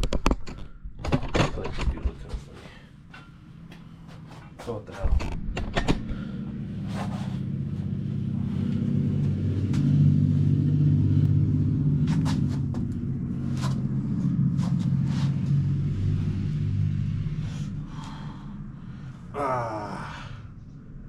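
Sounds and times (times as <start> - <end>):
low humming motor rumble: 2.4 - 21.0.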